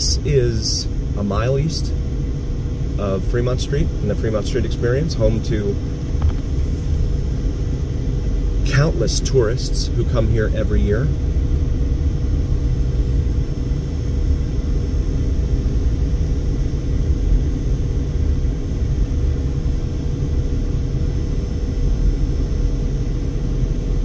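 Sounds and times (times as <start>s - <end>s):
car driving low rumble: 0.0s - 24.0s
faint steady hum: 0.0s - 24.0s.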